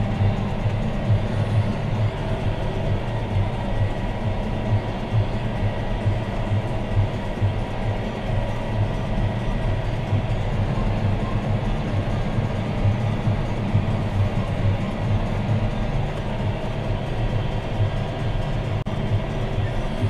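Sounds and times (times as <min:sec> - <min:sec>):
tractor diesel engine droning: 0:00.0 - 0:20.0.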